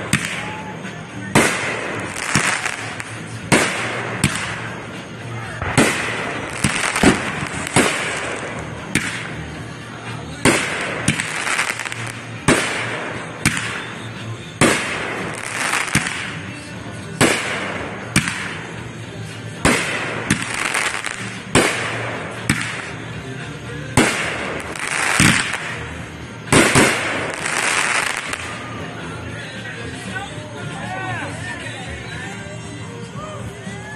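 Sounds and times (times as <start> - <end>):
fireworks shells bursting: 0.0 - 28.8
fireworks crackling hiss: 0.0 - 33.0.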